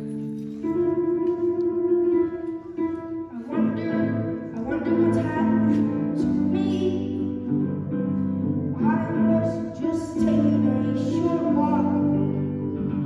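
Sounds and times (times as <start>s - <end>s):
plucked guitar-like accompaniment: 0.0s - 13.0s
boy singing into a microphone: 0.6s - 7.8s, 8.6s - 13.0s.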